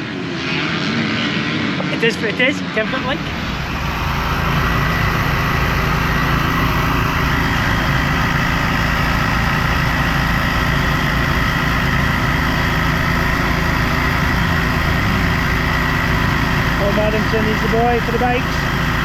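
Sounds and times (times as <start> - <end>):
steady high whine: 0.0 - 19.0
engine idling: 2.0 - 19.0.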